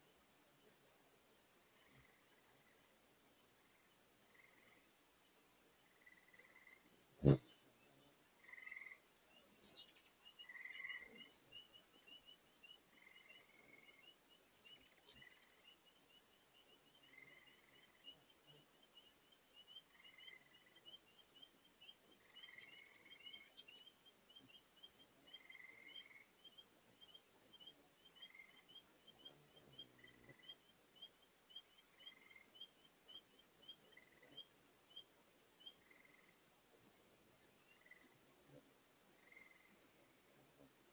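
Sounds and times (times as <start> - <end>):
bird chirps: 3.6 - 36.4, 37.5 - 38.6, 39.2 - 40.1
hummingbirds squeaky chatter: 3.6 - 36.4.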